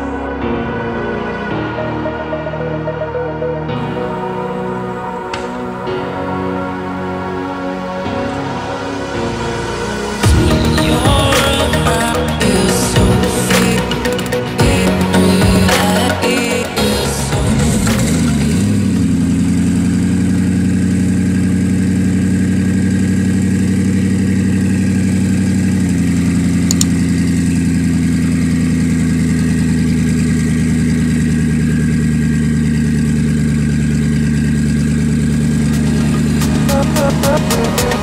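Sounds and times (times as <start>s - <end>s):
car engine idling: 1.7s - 38.0s.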